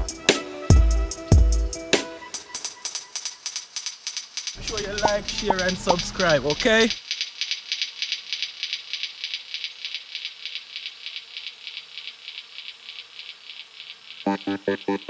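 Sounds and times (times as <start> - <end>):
rapid high-pitched rattle: 2.4 - 15.0.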